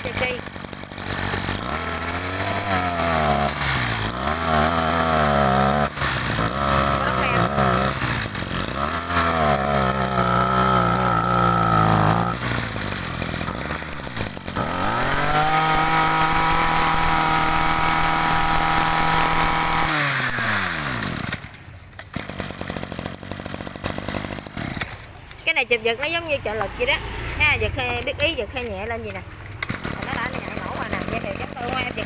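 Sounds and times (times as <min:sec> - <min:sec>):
brush cutter engine revving: 0:00.0 - 0:32.0.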